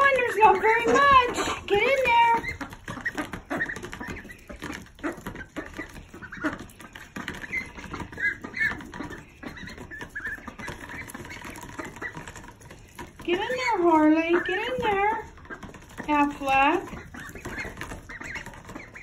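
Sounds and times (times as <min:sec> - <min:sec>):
ducklings peeping: 0:00.0 - 0:19.0
ducks pecking and slurping in bowl: 0:00.0 - 0:19.0.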